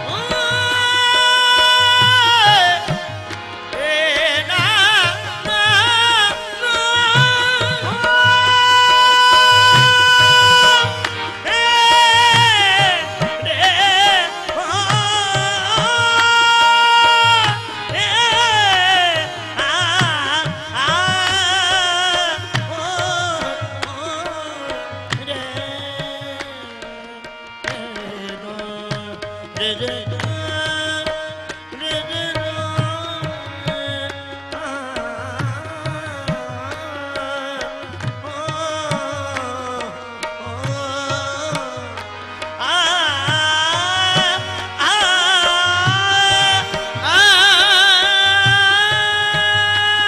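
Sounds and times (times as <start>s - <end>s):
harmonium: 0.0s - 50.0s
man singing: 0.0s - 50.0s
soft tabla beat: 0.0s - 50.0s.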